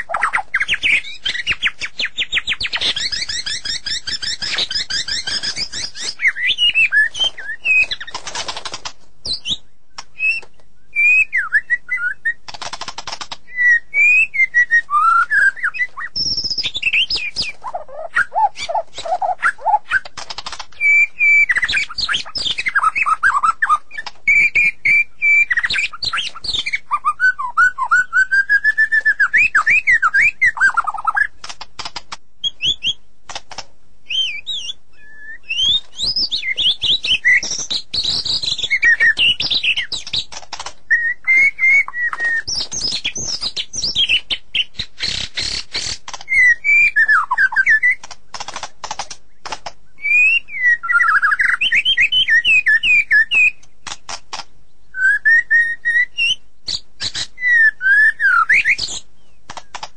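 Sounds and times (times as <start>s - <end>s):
bird whistling song: 0.0s - 8.4s, 9.2s - 12.5s, 13.1s - 31.4s, 32.4s - 33.1s, 34.0s - 40.3s, 40.9s - 48.0s, 50.0s - 53.6s, 54.8s - 59.9s
bird harsh clicking notes: 0.0s - 10.6s, 12.3s - 13.8s, 15.0s - 26.9s, 29.0s - 33.7s, 35.5s - 50.2s, 51.0s - 54.5s, 58.6s - 59.9s.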